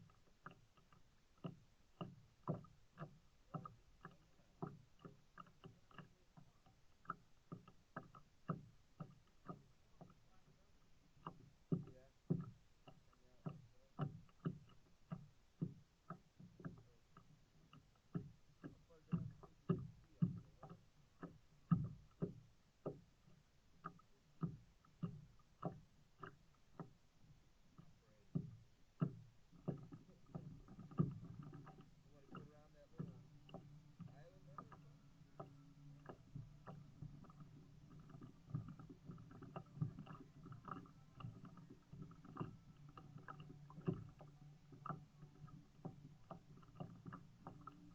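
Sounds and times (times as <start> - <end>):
kayak paddle strokes: 0.0 - 47.9.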